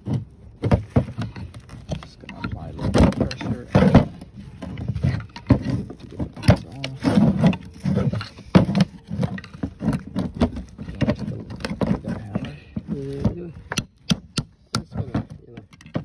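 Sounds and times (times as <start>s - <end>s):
metal knocks and clanks: 0.0s - 16.0s.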